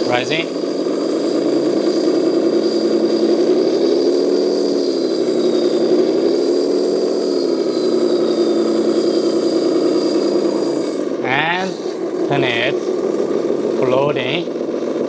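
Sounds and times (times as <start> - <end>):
simulated engine sound: 0.0 - 15.0
thin high whine: 0.0 - 15.0.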